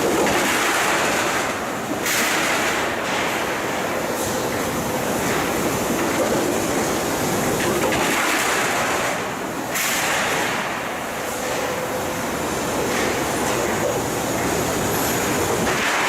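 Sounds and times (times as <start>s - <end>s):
industrial machine running: 0.0s - 16.0s.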